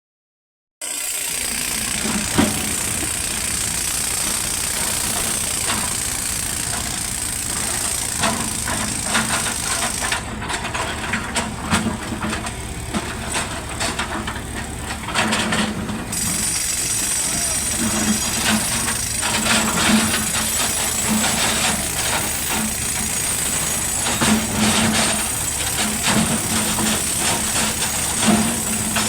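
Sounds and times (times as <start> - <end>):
excavator diesel engine running: 0.8 - 29.0.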